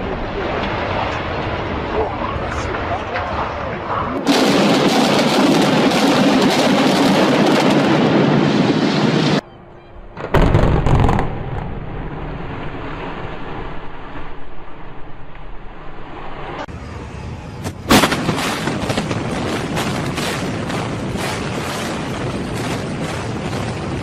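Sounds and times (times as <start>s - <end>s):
building collapsing rumble: 0.0s - 9.4s, 10.0s - 16.8s, 17.7s - 24.0s.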